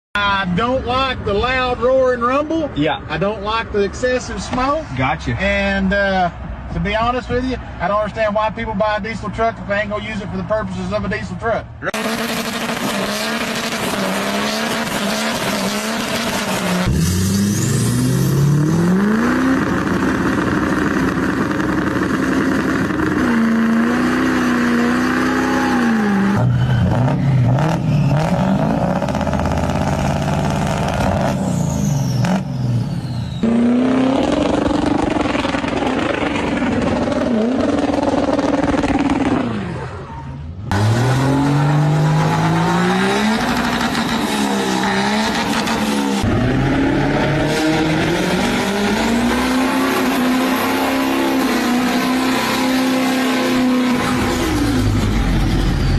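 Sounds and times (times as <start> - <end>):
diesel truck engines revving: 0.2 - 55.9.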